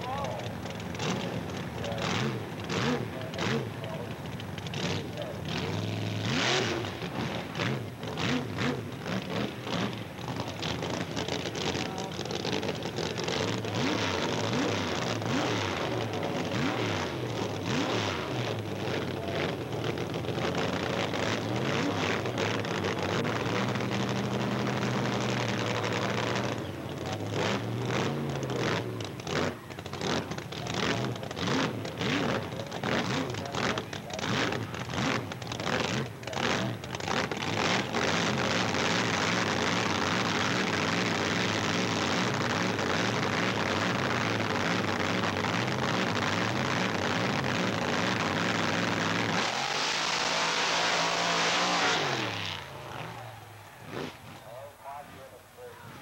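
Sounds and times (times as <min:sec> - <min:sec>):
race car engines revving: 0:00.0 - 0:56.0
steady low engine drone: 0:00.0 - 0:56.0.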